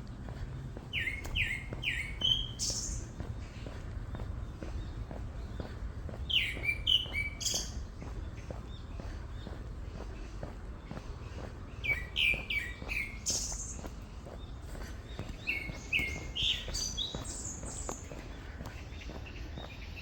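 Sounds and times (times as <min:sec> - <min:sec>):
footsteps on forest path: 0:00.0 - 0:20.0
songbirds calling: 0:00.0 - 0:20.0
steady low rumble: 0:00.0 - 0:20.0.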